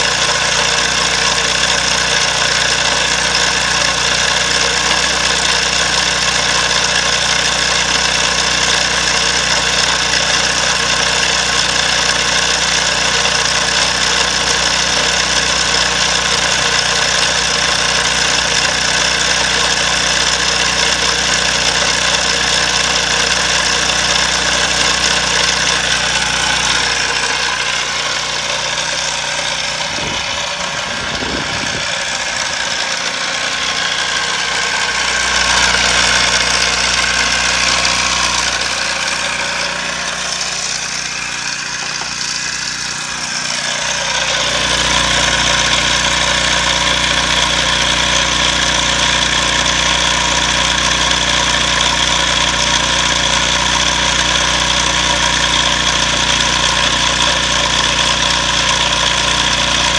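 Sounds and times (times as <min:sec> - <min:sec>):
small engine idling: 0:00.0 - 0:59.9.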